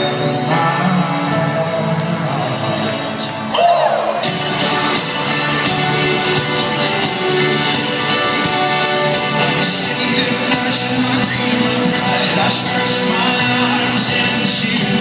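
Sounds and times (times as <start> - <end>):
live folk-rock band playing: 0.0 - 15.0.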